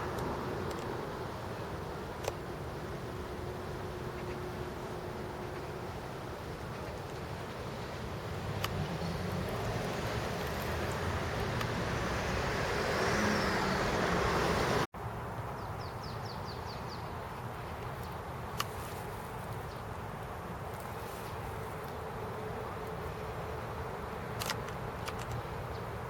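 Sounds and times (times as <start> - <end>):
distant traffic hum: 0.0 - 26.0.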